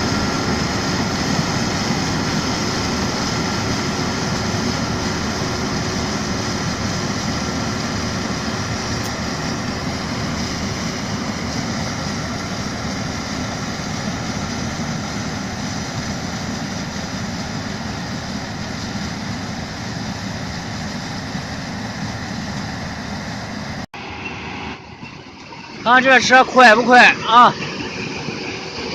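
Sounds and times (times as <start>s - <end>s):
harvester machine drone: 0.0s - 28.9s.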